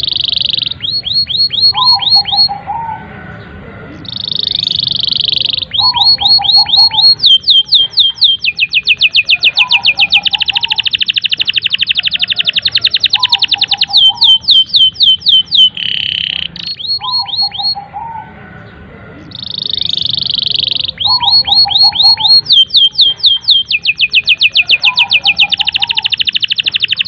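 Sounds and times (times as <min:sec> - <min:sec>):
canary singing: 0:00.0 - 0:27.0.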